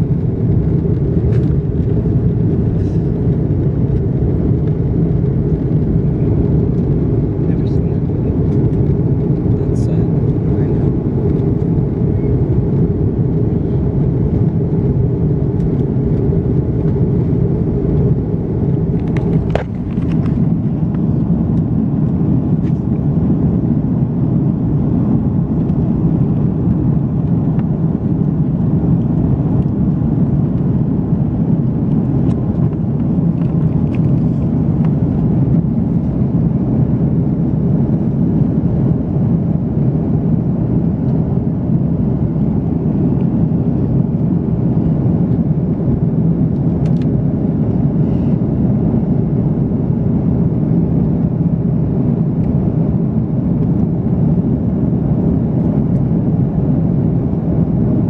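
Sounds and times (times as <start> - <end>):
airplane cabin engine roar: 0.0 - 58.0.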